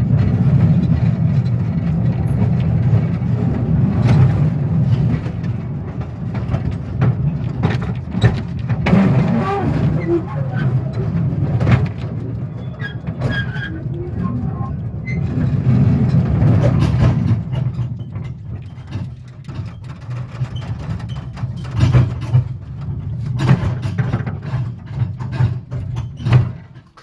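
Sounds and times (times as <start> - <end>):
train rattling and clanking: 0.0 - 27.0.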